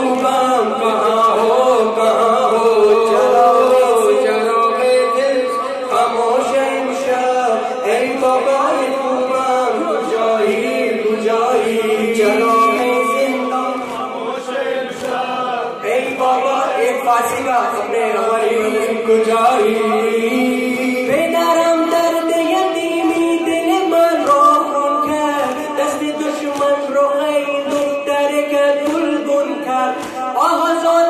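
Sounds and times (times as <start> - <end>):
group chanting along: 0.0 - 4.7, 5.5 - 26.9
man singing a lament: 0.0 - 31.0.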